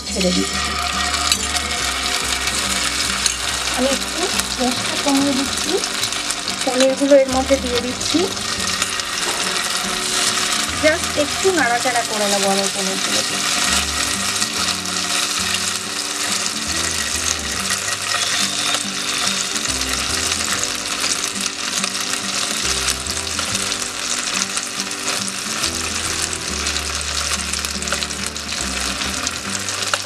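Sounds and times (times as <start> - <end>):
food sizzling in oil: 0.0 - 30.0
soft background music: 0.0 - 30.0.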